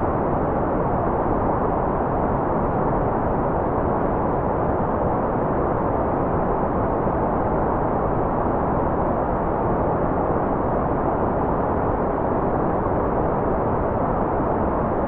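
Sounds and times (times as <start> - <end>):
muffled white noise hiss: 0.0 - 15.0.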